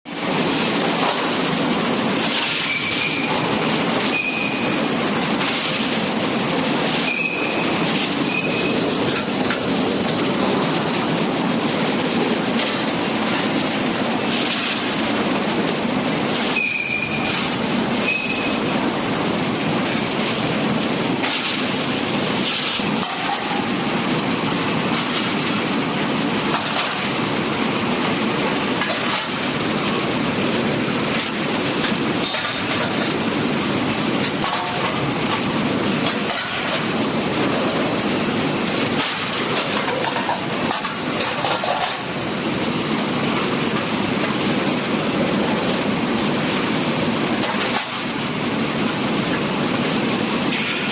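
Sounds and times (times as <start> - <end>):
dishwasher spraying water: 0.1 - 50.9
rattling conveyor: 0.1 - 50.9.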